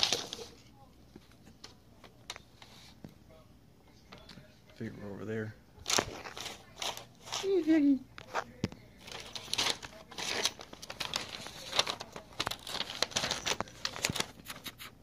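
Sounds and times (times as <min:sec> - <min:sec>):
paper rustling and crinkling: 0:00.0 - 0:03.0, 0:05.8 - 0:15.0.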